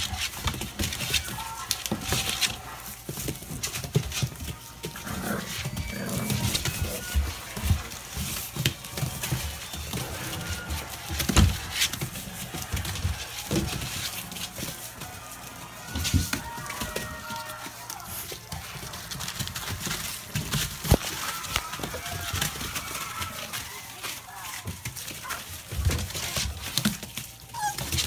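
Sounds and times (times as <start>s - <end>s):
puppies yapping and growling: 0.0s - 15.0s, 16.0s - 28.0s
puppies scuffling in wood shavings: 0.0s - 28.0s.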